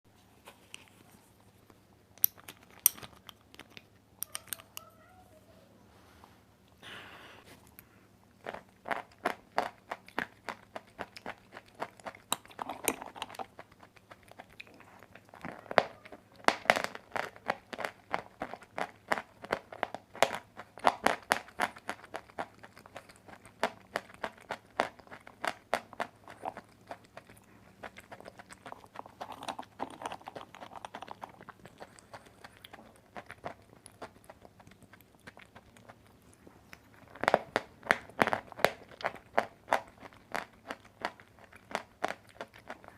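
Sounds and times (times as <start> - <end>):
crisp chewing crunches: 0.6 - 4.7, 7.6 - 42.9.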